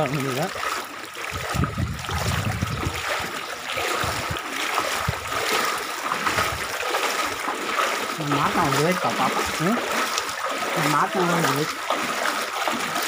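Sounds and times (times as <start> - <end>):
water sloshing around legs: 0.0 - 13.0.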